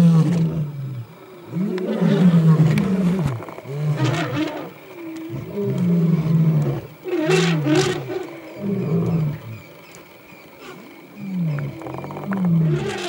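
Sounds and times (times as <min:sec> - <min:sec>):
lion roaring in deep grunts: 0:00.0 - 0:09.7, 0:10.6 - 0:13.0.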